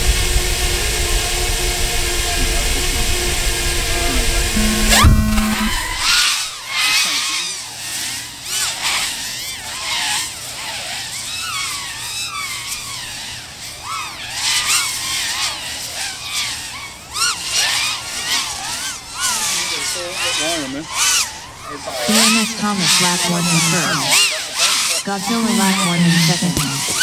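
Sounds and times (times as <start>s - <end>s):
racing drones whining: 0.0s - 9.6s, 11.1s - 27.0s.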